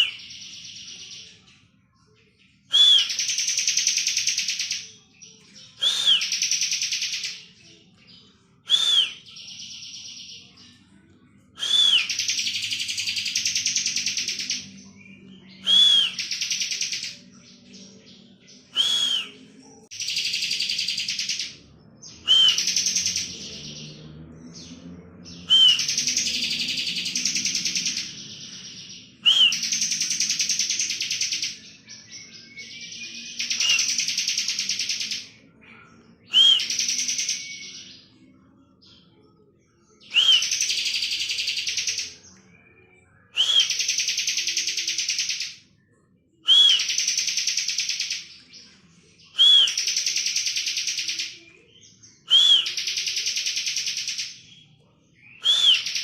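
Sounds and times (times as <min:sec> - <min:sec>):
bird song with buzzing trill: 0:00.0 - 0:56.0.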